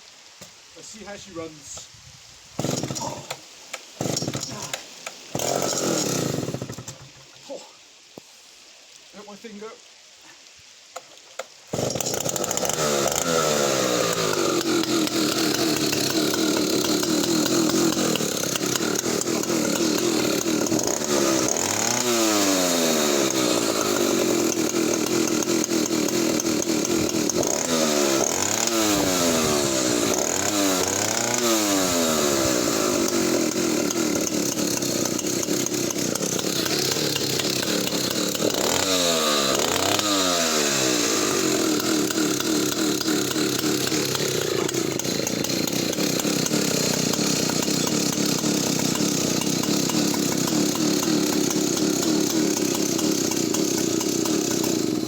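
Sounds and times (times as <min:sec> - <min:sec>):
chainsaw engine revving: 0:02.6 - 0:07.2, 0:11.7 - 0:55.0.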